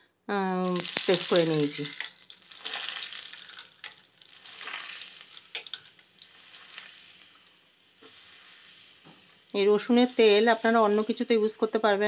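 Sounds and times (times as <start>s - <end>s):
garlic sizzling in oil: 0.4s - 12.0s
crackling oil: 0.5s - 12.0s.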